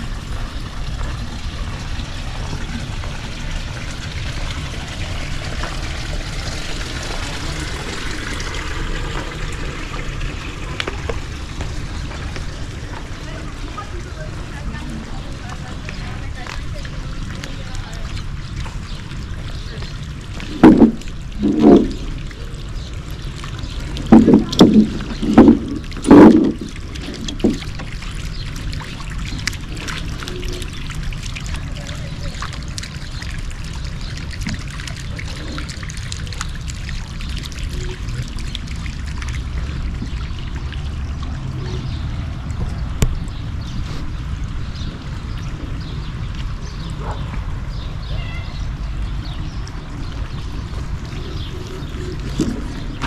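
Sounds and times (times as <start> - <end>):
fountain water trickling: 0.0 - 53.0.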